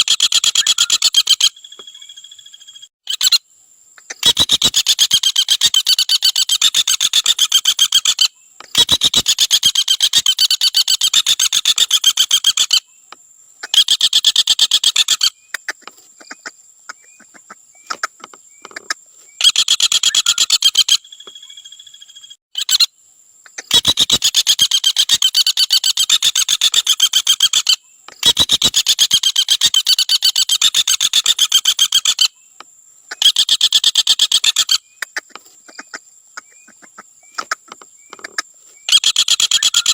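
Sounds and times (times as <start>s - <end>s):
woodpecker rasping rattle call: 0.0s - 3.4s, 4.0s - 39.9s.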